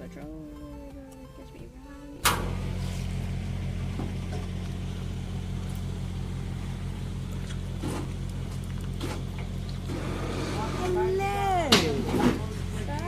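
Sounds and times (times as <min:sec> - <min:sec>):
vehicle engine running at low revs: 0:02.2 - 0:13.0.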